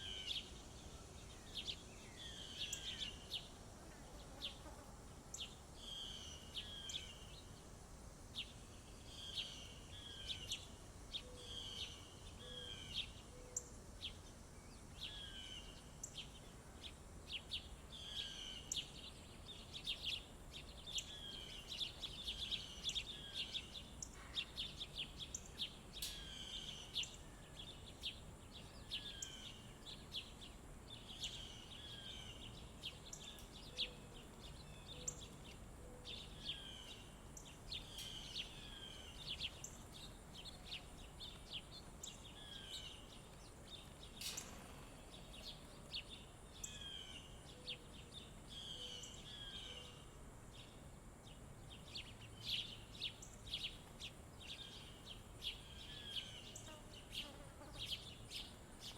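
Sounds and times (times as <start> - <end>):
outdoor hiss: 0.0 - 58.9
songbirds chirping: 0.0 - 58.9.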